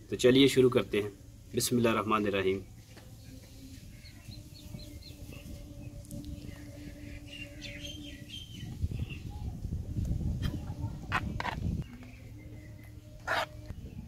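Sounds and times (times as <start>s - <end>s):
faint steady hum: 0.0s - 14.0s
small birds chirping: 2.4s - 14.0s.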